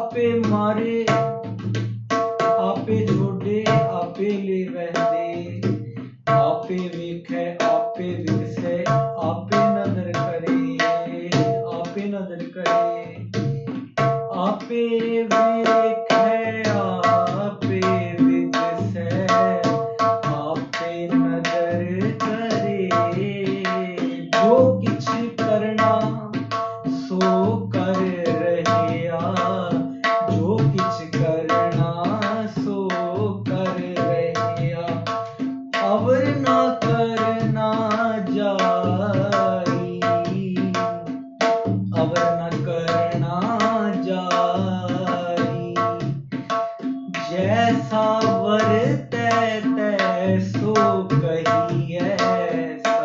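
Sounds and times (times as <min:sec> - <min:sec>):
tabla drumming: 0:00.0 - 0:53.0.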